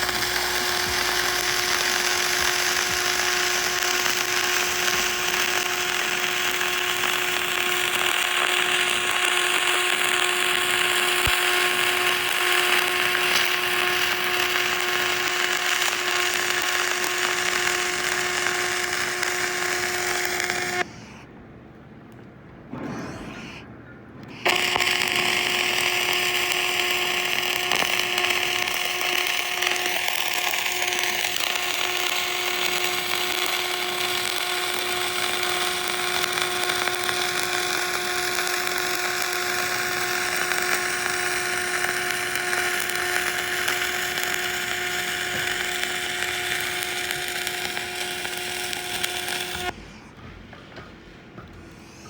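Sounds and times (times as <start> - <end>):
power tool whining: 0.0 - 21.0, 24.2 - 49.8.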